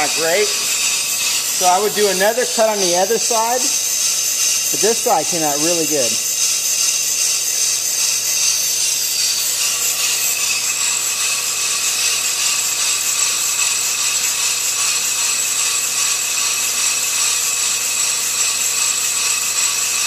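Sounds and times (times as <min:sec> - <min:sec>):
brake lathe scraping hiss: 0:00.0 - 0:20.0.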